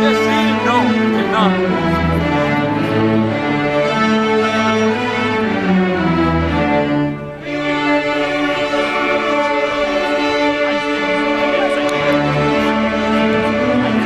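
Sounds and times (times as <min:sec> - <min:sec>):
string orchestra playing: 0:00.0 - 0:14.0.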